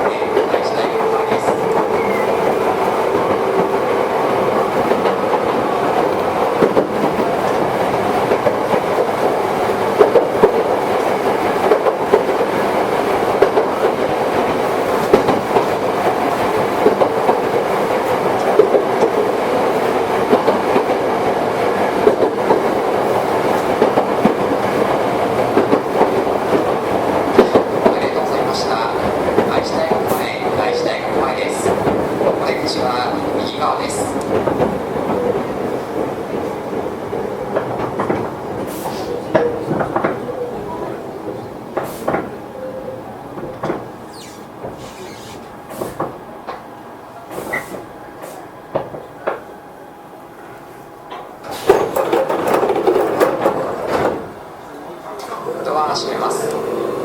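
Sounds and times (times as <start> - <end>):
wheels clacking over rail joints: 0.0 - 49.5, 51.0 - 54.4
electric train rumble and hum: 0.0 - 57.0.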